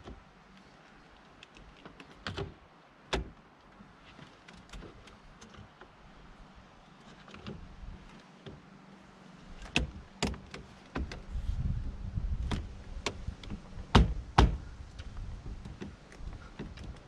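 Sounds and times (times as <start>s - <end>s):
low rumbling handling noise: 0.0s - 17.0s.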